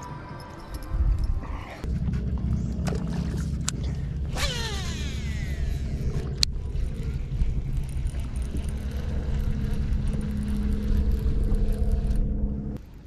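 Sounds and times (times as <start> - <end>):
boat motor humming: 0.9 - 12.8.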